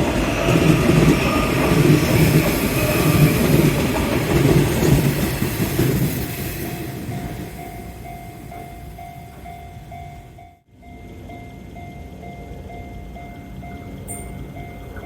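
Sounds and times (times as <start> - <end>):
passing train: 0.0 - 15.0.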